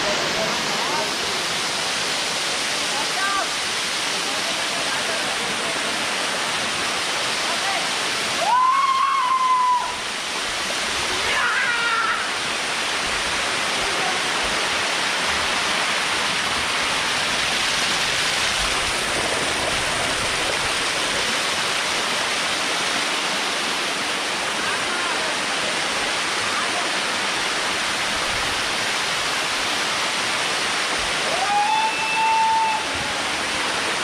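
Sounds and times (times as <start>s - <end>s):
waterfall rushing into a pool: 0.0s - 34.0s.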